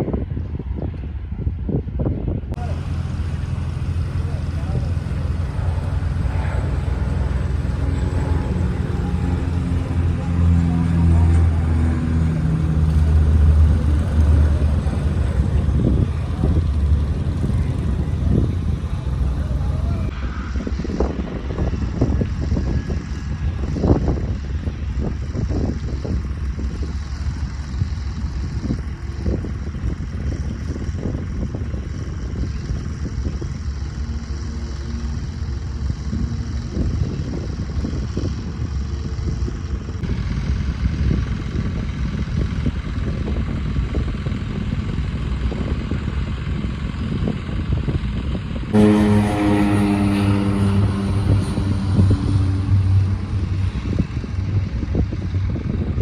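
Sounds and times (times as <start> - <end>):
propeller aircraft engines: 0.0 - 56.0
wind noise on microphone: 0.0 - 56.0.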